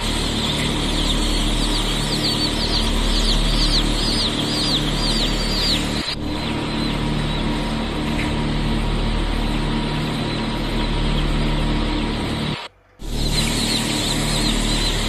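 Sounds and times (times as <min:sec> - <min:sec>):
baby chicks peeping: 0:00.0 - 0:15.0
steady hum: 0:00.0 - 0:15.0.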